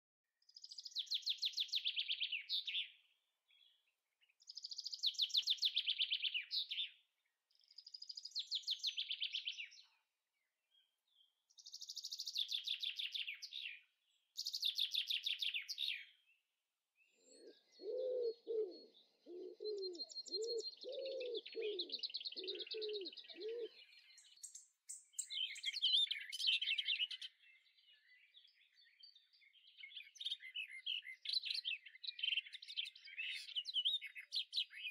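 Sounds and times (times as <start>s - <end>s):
birds chirping: 0.5s - 16.4s, 17.0s - 34.9s.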